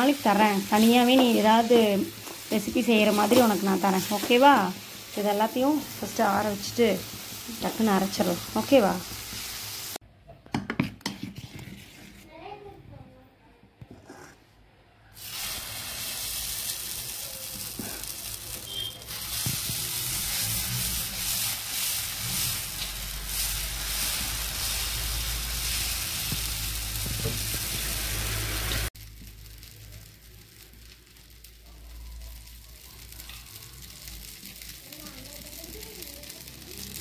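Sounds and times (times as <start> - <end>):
batter sizzling on hot iron: 0.0 - 10.0, 15.2 - 37.0.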